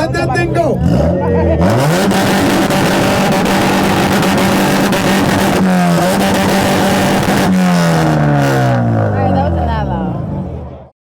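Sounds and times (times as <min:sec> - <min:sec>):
car engine at high revs: 0:00.7 - 0:10.7.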